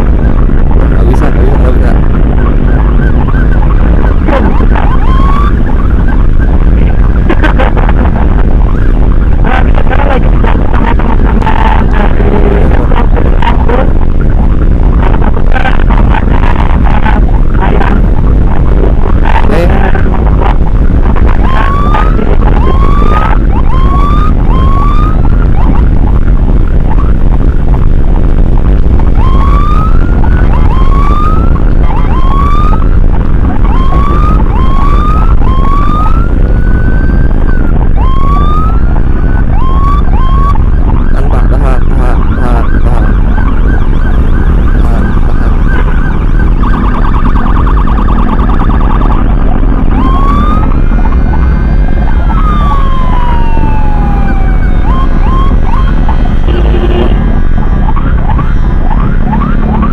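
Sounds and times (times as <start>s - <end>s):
emergency siren whooping: 0.0s - 59.9s
engine and wind rumble: 0.0s - 59.9s.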